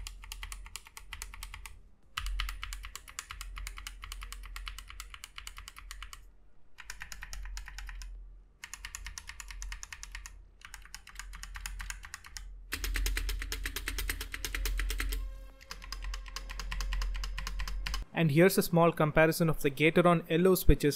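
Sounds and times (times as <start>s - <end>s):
mechanical keyboard typing: 0.0s - 18.0s.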